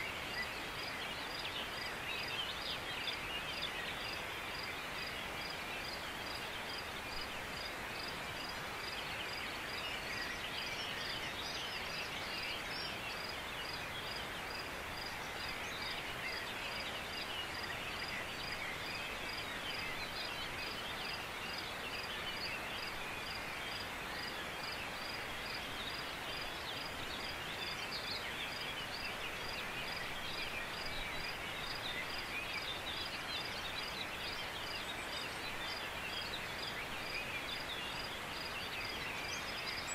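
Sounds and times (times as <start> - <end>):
constant hiss: 0.0 - 39.9
songbirds chorus: 0.0 - 39.9.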